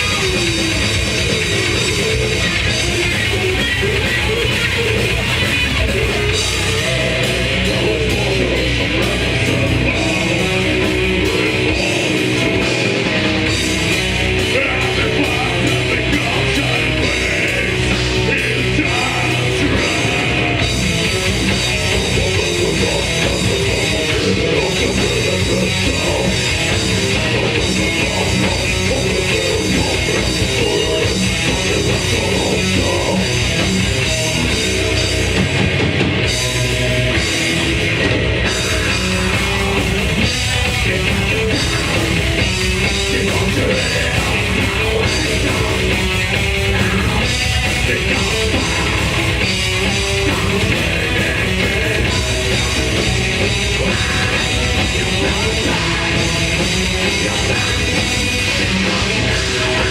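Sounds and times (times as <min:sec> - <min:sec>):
death metal band playing live: 0:00.0 - 0:59.9.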